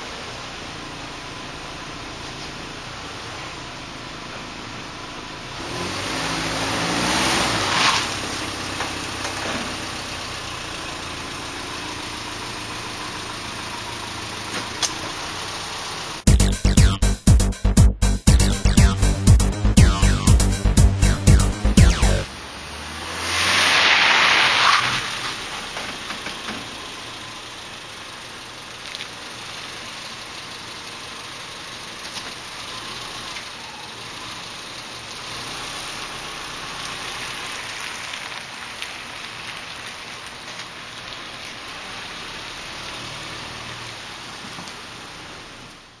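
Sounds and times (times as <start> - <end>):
car engine running low: 0.0 - 46.0.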